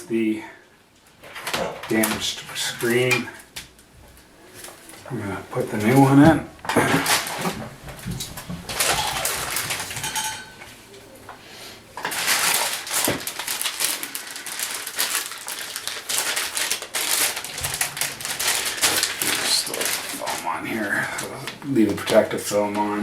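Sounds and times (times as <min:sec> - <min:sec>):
packaging crinkling and rustling: 0:01.0 - 0:10.5, 0:12.0 - 0:23.0.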